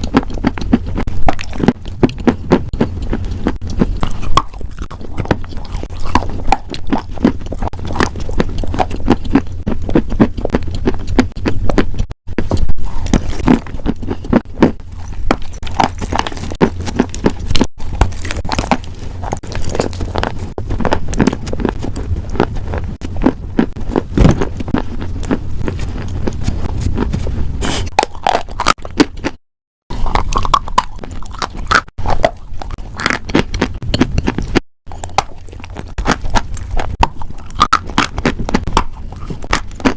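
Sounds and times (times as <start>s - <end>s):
crunching and chewing crisp food: 0.0s - 39.9s.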